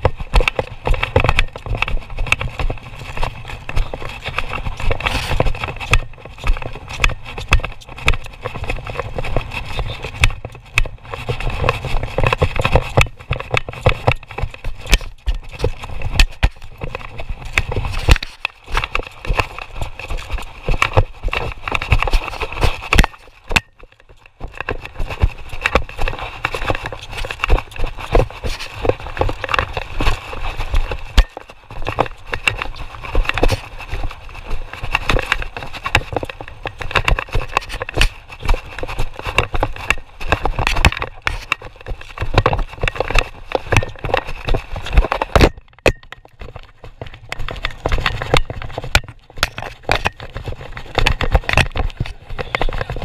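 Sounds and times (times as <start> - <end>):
horse hoofbeats on dirt: 0.0 - 53.0
saddle and tack rattling: 0.0 - 53.0.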